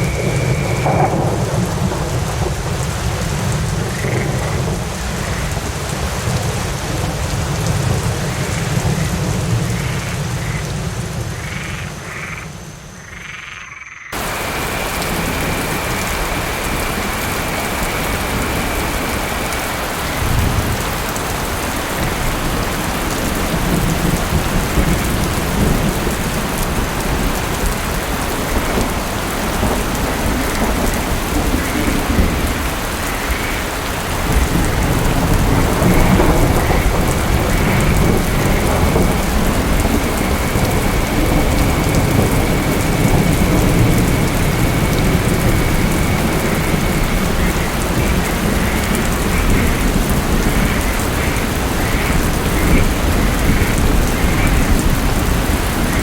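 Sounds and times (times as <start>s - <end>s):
low thunder rumbling: 0.0s - 12.6s, 14.2s - 56.0s
steady rain falling: 0.0s - 13.5s, 14.1s - 56.0s.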